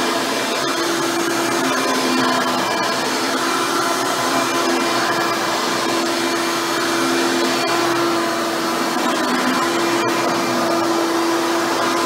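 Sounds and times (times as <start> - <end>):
vacuum cleaner running on carpet: 0.0 - 12.0.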